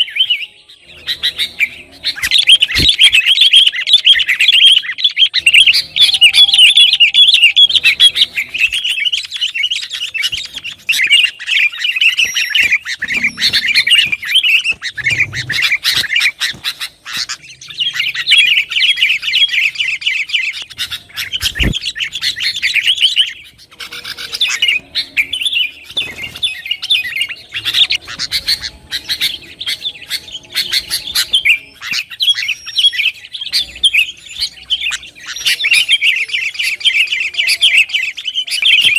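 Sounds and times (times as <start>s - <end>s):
bulbuls chattering: 0.0s - 38.9s.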